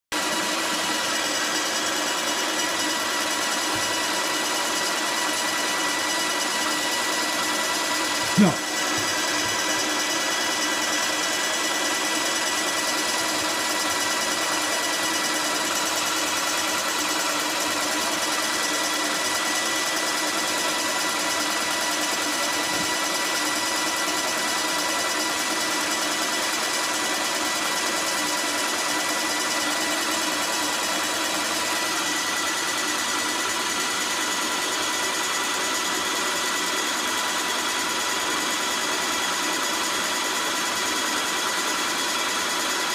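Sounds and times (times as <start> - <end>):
paint sprayer pump humming: 0.1 - 42.9.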